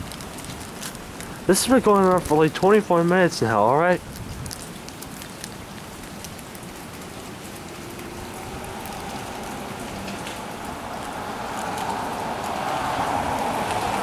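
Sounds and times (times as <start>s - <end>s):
rain hissing: 0.0s - 14.0s
raindrops hitting close by: 0.0s - 14.0s.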